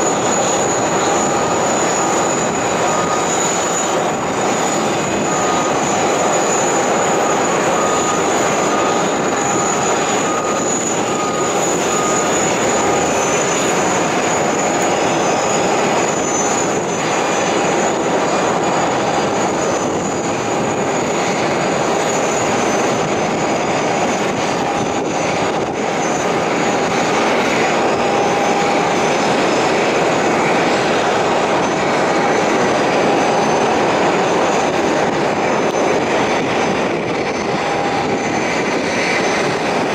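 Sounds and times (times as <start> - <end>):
aircraft turbine roar: 0.0 - 39.9
high turbine whine: 0.0 - 39.9.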